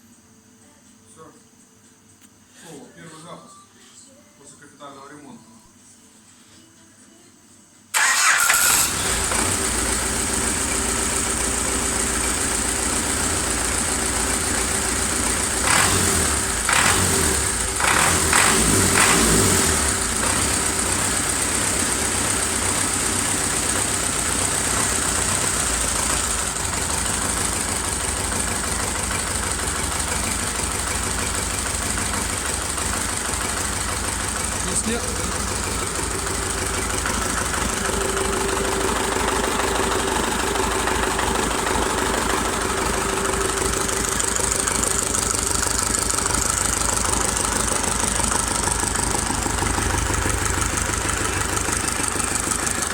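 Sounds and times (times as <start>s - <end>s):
diesel tractor engine running: 8.0s - 52.9s
electric starter cranking: 8.0s - 52.9s.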